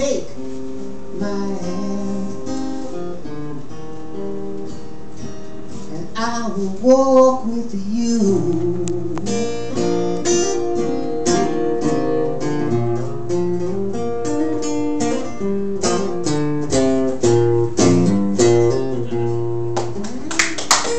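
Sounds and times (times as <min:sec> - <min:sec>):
acoustic guitar strumming: 0:00.0 - 0:20.9.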